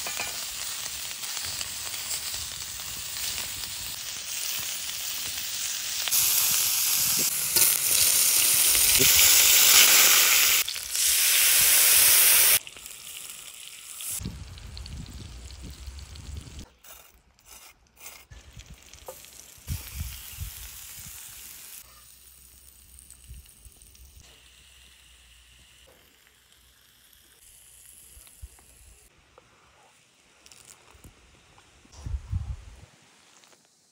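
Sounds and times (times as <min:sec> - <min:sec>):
patties sizzling in hot fat: 0:00.0 - 0:31.6.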